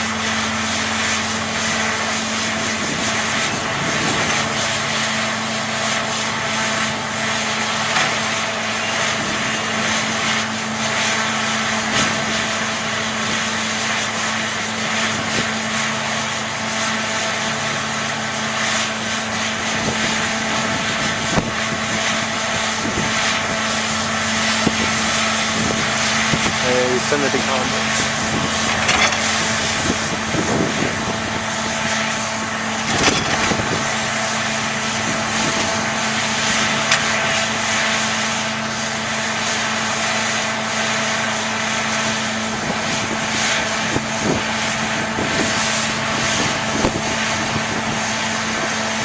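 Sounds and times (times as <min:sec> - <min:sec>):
diesel engine drone: 0:00.0 - 0:49.0.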